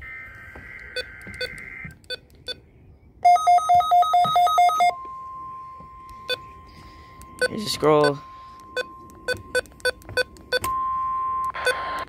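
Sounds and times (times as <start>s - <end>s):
rapid beeping alarm: 0.0s - 1.9s, 3.2s - 12.0s
steady warning alarm tone: 0.0s - 2.0s, 3.2s - 12.0s.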